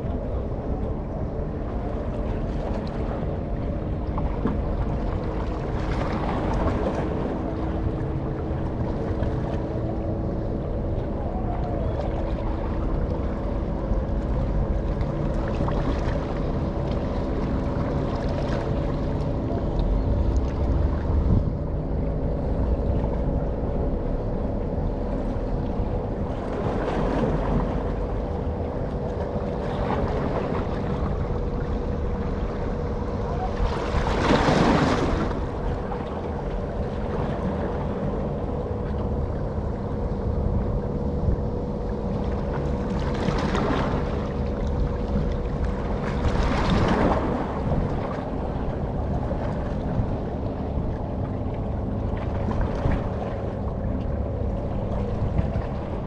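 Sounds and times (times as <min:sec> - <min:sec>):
rush of wind or water: 0:00.0 - 0:56.0
ship engine rumble: 0:00.0 - 0:56.0.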